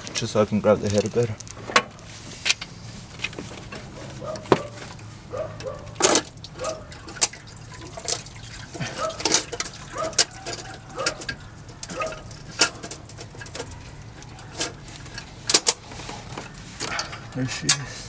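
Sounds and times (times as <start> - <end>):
metal clanks and knocks: 1.0 - 18.0
metal squeaking on metal: 2.7 - 18.0.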